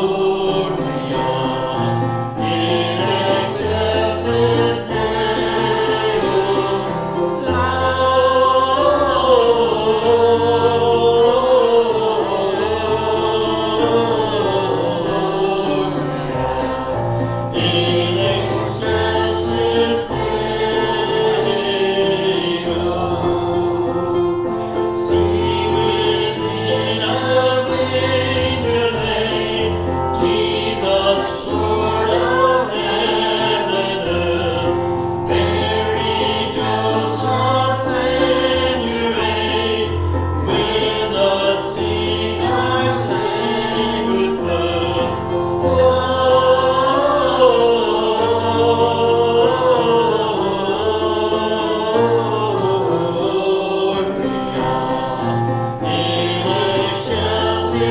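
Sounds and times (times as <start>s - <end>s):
congregation singing a hymn: 0.0s - 57.9s
steady musical accompaniment: 0.0s - 57.9s.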